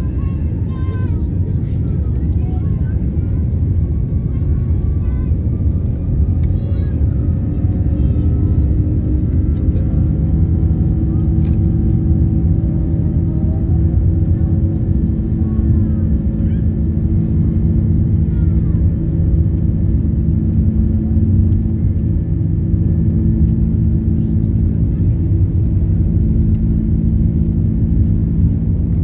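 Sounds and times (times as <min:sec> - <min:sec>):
airliner cabin engine rumble: 0:00.0 - 0:29.0
steady cabin hum: 0:00.0 - 0:29.0.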